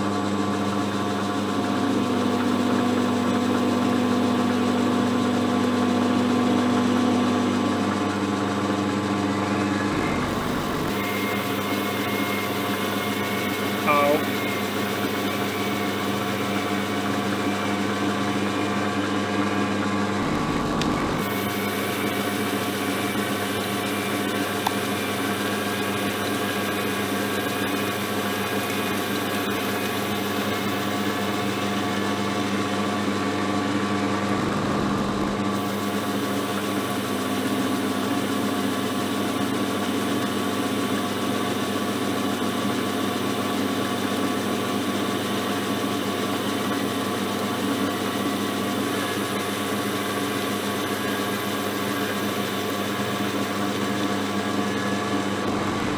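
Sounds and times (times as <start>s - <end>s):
metal lathe motor hum: 0.0s - 55.9s.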